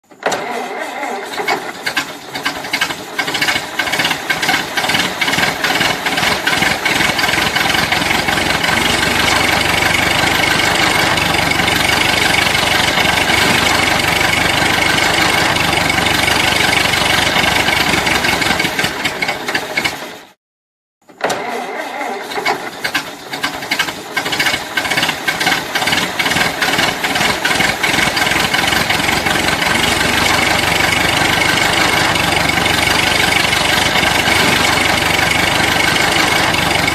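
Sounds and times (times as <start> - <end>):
old car engine cranking and running: 0.1 - 20.4, 21.2 - 36.9.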